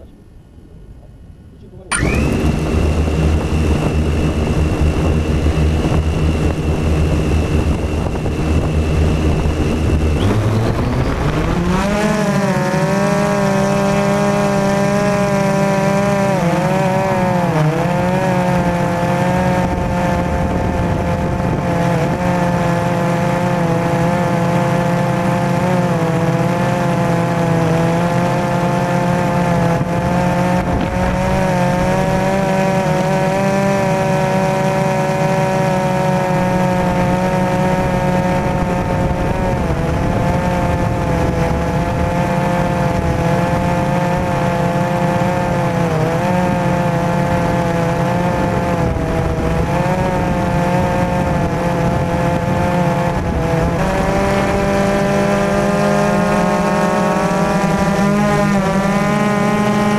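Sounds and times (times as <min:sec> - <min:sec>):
drone motors and propellers: 0:01.8 - 0:59.9.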